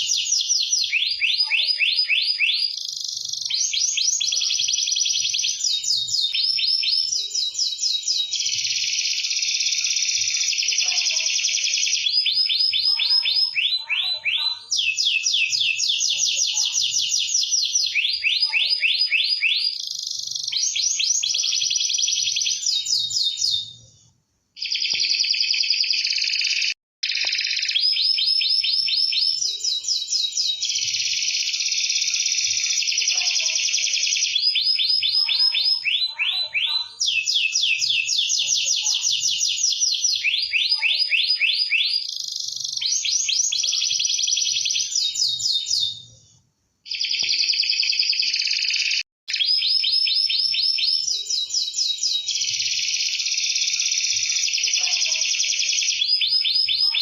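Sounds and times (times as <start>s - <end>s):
canary singing trills: 0.0s - 23.9s, 24.6s - 46.2s, 46.9s - 57.0s.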